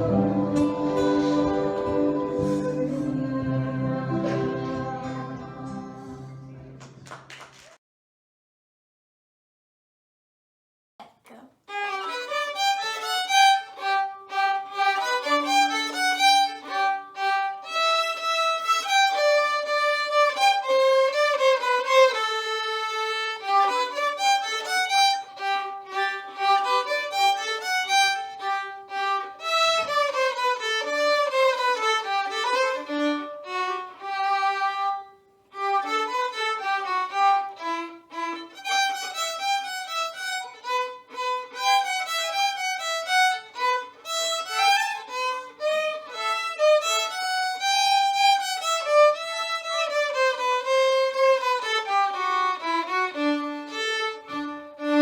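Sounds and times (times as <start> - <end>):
bowed violin melody: 0.0 - 6.8, 11.7 - 55.0.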